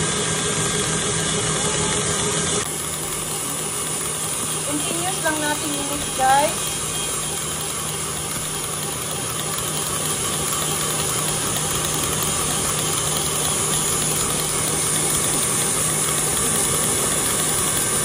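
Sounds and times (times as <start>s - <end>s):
motor hum: 0.0s - 18.0s
stand mixer whisking: 0.0s - 18.0s.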